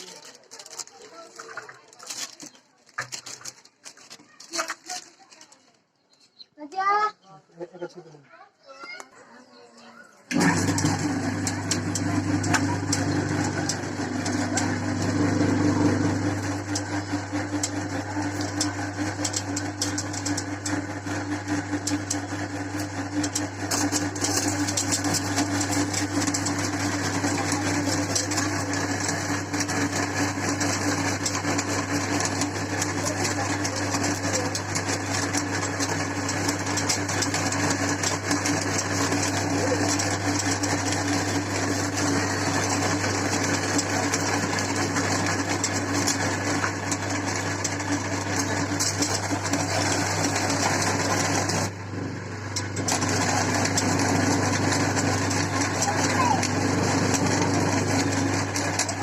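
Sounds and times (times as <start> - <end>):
dry noodles crackling: 0.0 - 5.9, 10.3 - 51.8
electric meat grinder motor hum: 10.3 - 59.0.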